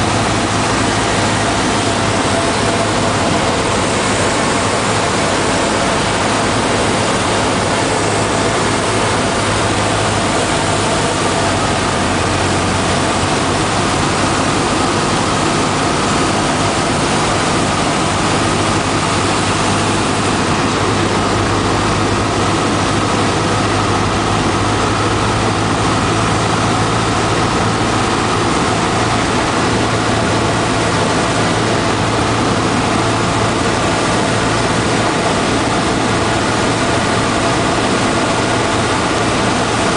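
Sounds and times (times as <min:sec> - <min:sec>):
airflow noise: 0:00.0 - 0:39.9
propeller aircraft engine droning: 0:00.0 - 0:39.9.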